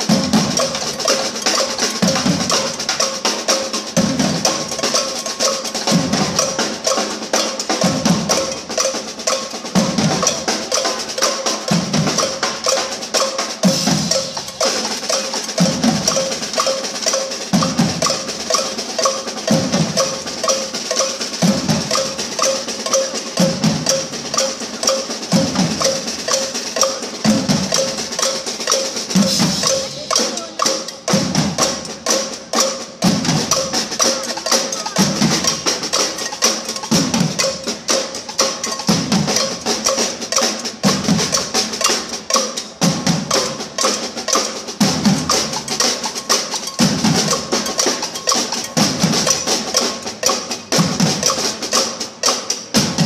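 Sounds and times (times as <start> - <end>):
drums and cymbals playing: 0.0 - 53.0.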